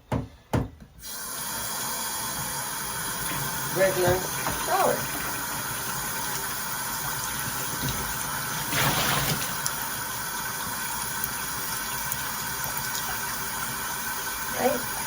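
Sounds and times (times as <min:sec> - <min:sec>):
shower water spraying: 0:01.0 - 0:15.0.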